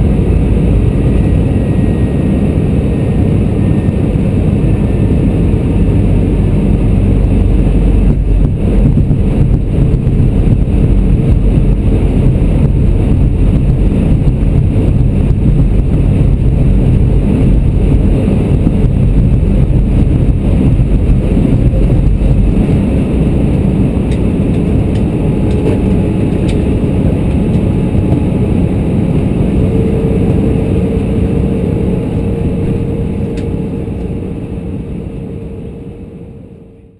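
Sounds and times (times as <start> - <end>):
jet engine rumble in cabin: 0.0 - 36.9
steady hum: 0.0 - 36.9.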